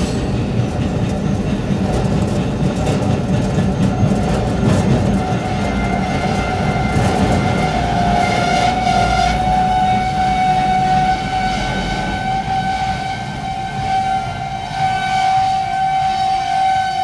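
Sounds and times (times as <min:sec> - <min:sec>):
wheels rumbling on track: 0:00.0 - 0:17.0.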